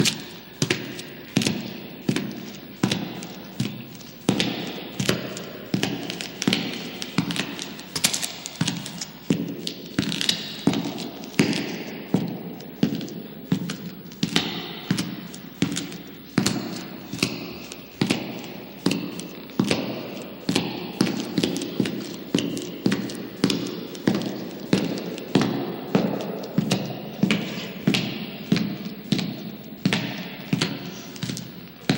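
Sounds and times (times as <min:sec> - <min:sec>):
heavy footsteps echoing in tunnel: 0:00.0 - 0:31.9.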